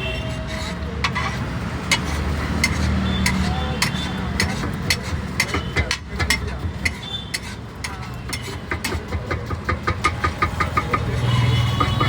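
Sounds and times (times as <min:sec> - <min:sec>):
metal spatula clanking on iron griddle: 0:00.0 - 0:12.0.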